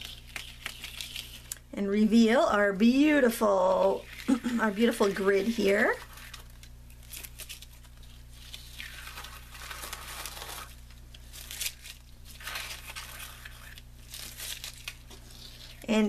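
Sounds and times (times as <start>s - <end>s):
masking tape peeling off paper: 0.0s - 1.6s, 3.7s - 15.9s
paper strips crinkling: 0.0s - 1.7s, 3.2s - 16.0s.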